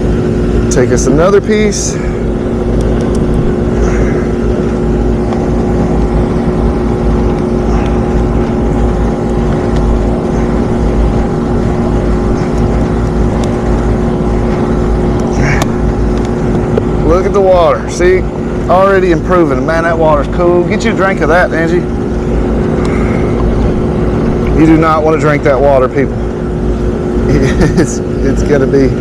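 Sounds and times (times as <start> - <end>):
hvac unit hum and rumble: 0.0 - 29.0.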